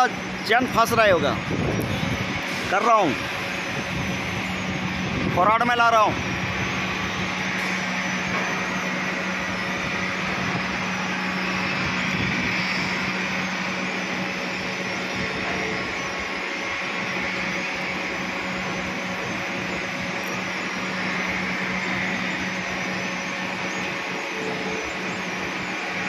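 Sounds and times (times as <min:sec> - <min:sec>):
electric hoist motor humming: 0:00.0 - 0:26.0.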